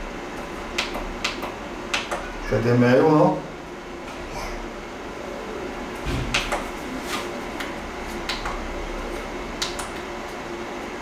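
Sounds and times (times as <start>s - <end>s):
projector cooling fan whirring: 0.0s - 11.0s.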